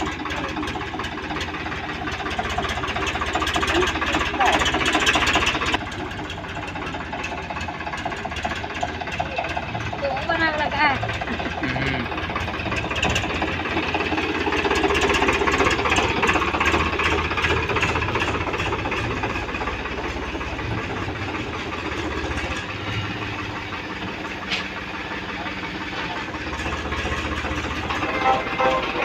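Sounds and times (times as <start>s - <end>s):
tractor diesel engine clattering: 0.0s - 29.0s.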